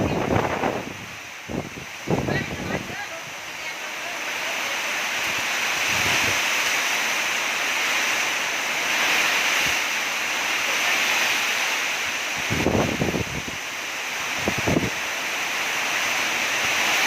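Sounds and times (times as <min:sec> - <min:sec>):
strong wind rushing: 0:00.0 - 0:03.9, 0:04.8 - 0:15.1
heavy rain: 0:00.0 - 0:17.0
low wind buffeting: 0:00.0 - 0:17.0.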